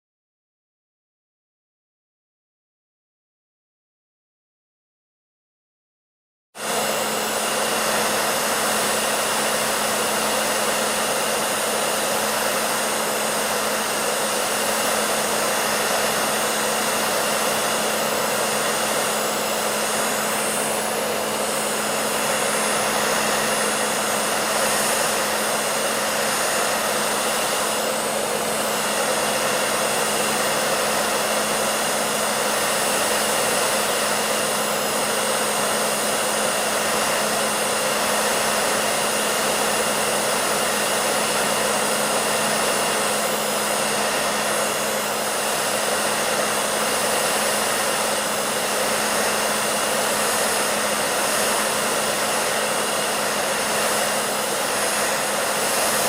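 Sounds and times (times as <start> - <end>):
hair dryer running: 6.6 - 56.0.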